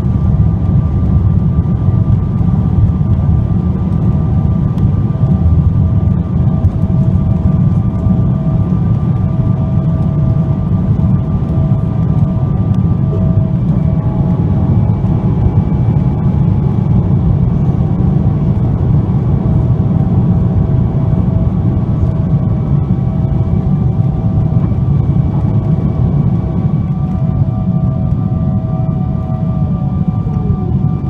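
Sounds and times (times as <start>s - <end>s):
jet engine roar in cabin: 0.0s - 31.0s
whining engine tones: 0.0s - 31.0s.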